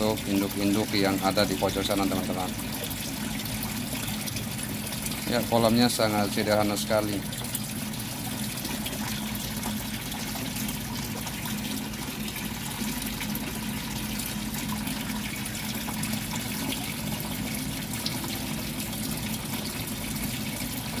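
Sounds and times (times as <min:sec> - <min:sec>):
water pouring into a pond: 0:00.0 - 0:21.0.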